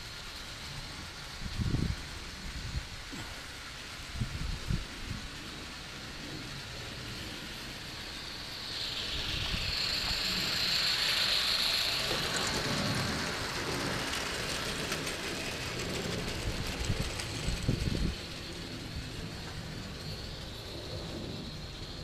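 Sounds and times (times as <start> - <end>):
steam hiss: 0.0 - 22.0
wheels clattering on track: 0.0 - 22.0.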